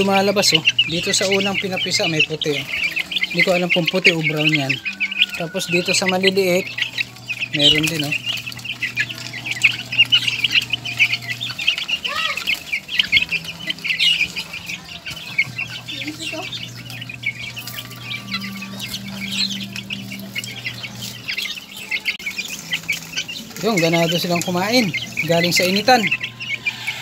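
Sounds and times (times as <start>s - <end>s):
chicks peeping and chirping: 0.0s - 27.0s.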